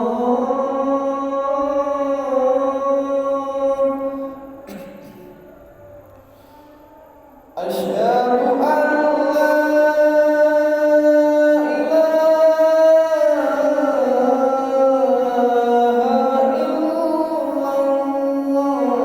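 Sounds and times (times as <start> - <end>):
man chanting call to prayer: 0.0 - 5.6, 7.6 - 19.0.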